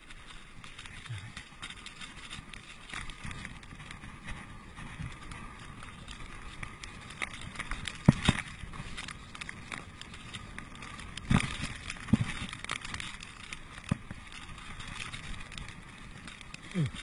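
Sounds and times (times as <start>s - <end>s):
bike tyres on dirt trail: 0.0s - 17.0s
bike knocks and rattles: 0.7s - 17.0s.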